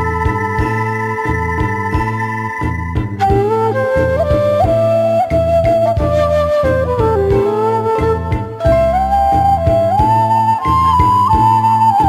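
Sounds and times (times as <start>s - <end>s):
flute-like melody: 0.0s - 12.0s
plucked bass notes: 0.0s - 12.0s.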